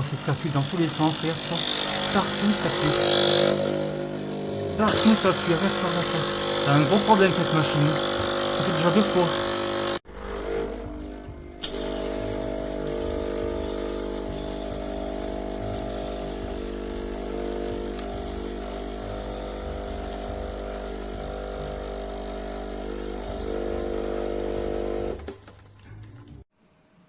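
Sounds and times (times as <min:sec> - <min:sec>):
espresso machine pump buzzing: 0:00.0 - 0:25.4.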